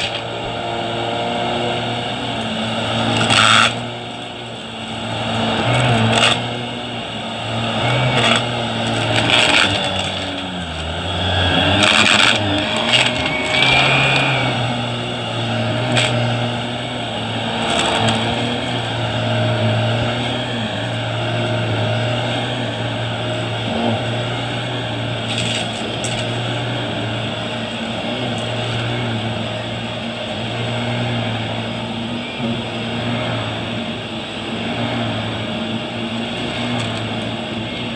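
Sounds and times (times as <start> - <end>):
vacuum cleaner motor hum: 0.0 - 37.9.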